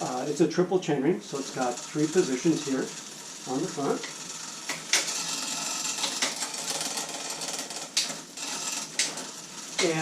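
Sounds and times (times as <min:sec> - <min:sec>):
bicycle chain whirring: 0:00.0 - 0:10.0.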